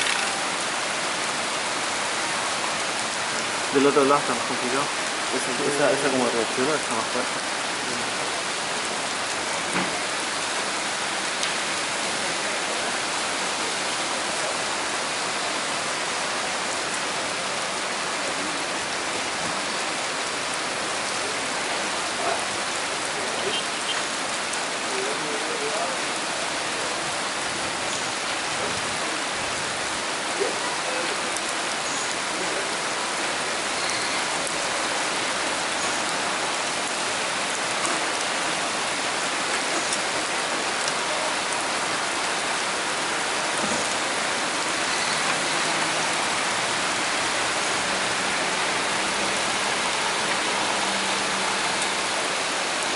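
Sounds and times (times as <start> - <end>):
torrential rain hiss: 0.0 - 52.9.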